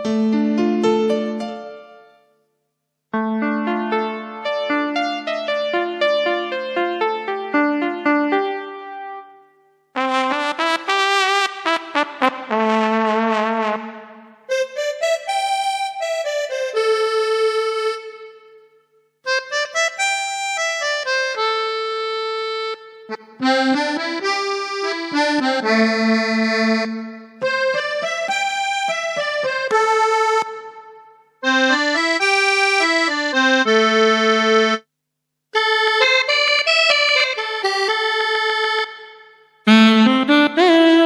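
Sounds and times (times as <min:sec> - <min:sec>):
keyboard playing reedy phrases: 0:00.0 - 0:02.4, 0:03.1 - 0:34.9, 0:35.6 - 0:41.0.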